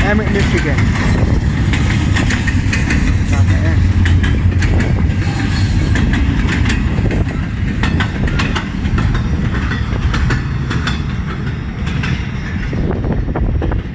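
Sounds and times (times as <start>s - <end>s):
wheels clicking over rail joints: 0.0s - 12.9s
freight train cars rumbling past: 0.0s - 13.9s.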